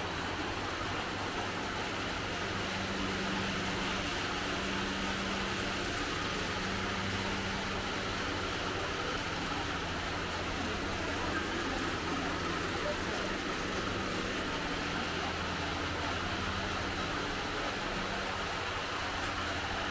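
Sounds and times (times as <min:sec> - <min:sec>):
constant rushing noise: 0:00.0 - 0:19.9
machine hum: 0:00.0 - 0:19.9.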